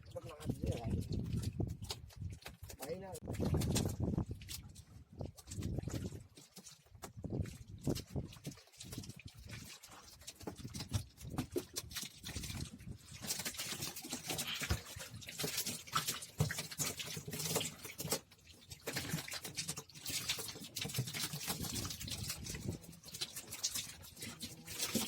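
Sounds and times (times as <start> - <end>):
water splashing and sloshing: 0.0 - 25.0.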